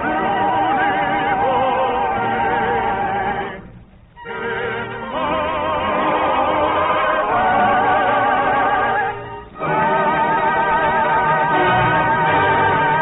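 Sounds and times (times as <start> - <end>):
operatic voices singing: 0.0 - 13.0
theatre orchestra: 0.0 - 13.0.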